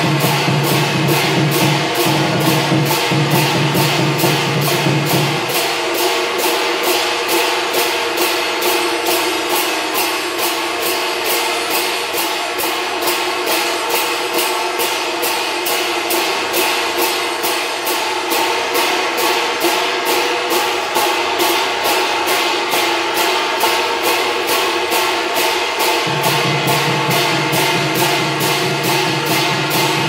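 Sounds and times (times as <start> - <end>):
barrel drum: 0.0 - 30.0
gongs ringing: 0.0 - 30.0
hand cymbals: 0.0 - 30.0.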